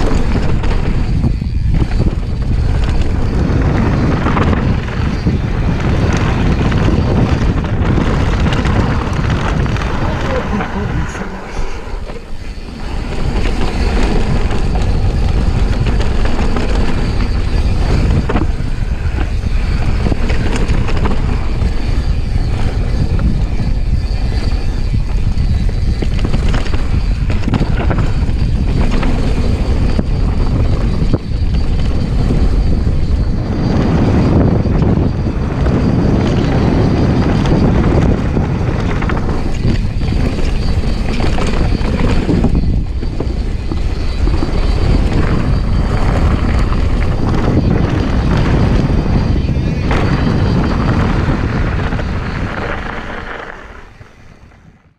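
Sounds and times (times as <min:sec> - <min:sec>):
bike rattles and knocks: 0:00.0 - 0:10.8, 0:12.0 - 0:54.8
wind on camera microphone: 0:00.0 - 0:54.9.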